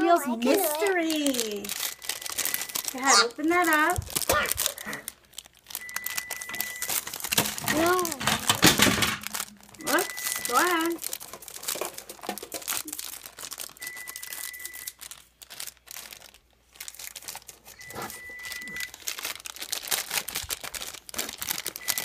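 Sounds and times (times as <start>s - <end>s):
foil bag crinkling and tearing: 0.3s - 22.0s.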